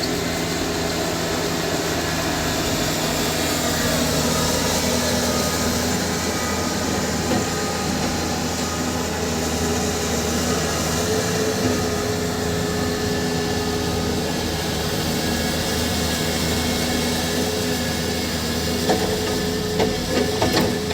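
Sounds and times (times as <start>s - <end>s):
heavy diesel machinery running: 0.0s - 20.9s.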